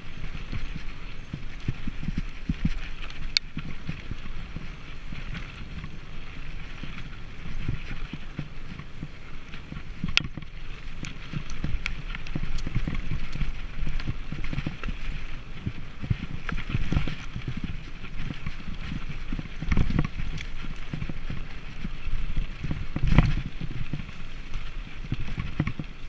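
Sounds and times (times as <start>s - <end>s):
bike rattling over bumps: 0.0s - 26.0s
bike tyres rolling over dirt: 0.0s - 26.0s.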